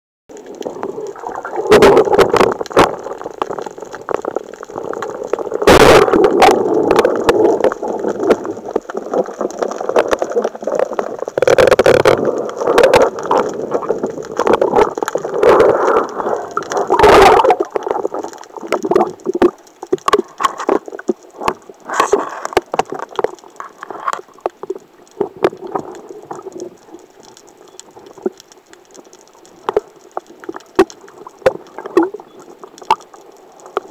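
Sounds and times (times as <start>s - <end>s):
water rushing and gurgling underwater: 0.3s - 33.9s.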